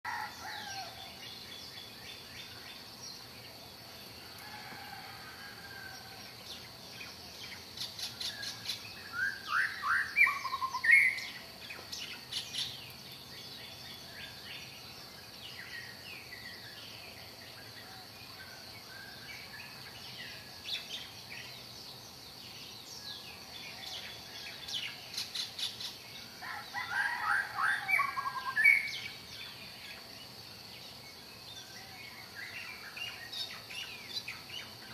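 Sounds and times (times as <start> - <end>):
songbirds chirping: 0.0 - 34.9
faint high hiss: 0.1 - 34.9.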